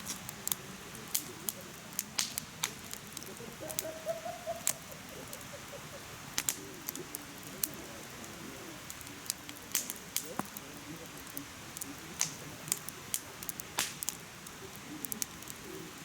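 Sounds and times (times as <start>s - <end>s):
fire hissing: 0.0s - 16.0s
wood fire popping: 0.0s - 16.0s.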